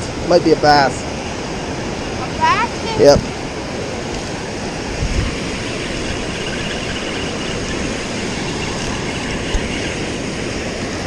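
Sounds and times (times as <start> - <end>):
water rushing through spillway: 0.0 - 11.0.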